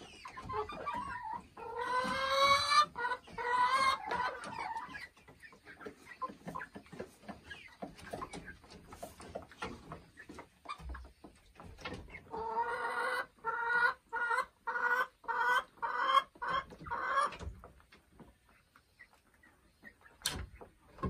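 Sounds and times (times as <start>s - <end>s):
chicken clucking: 0.0s - 21.0s.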